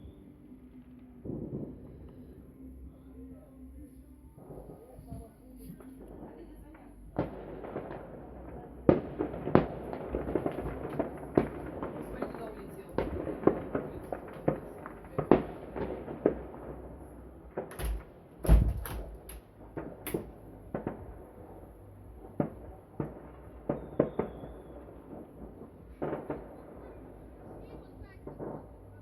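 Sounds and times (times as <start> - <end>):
deep firework boom: 4.4 - 29.0
fireworks bangs and pops: 4.4 - 29.0.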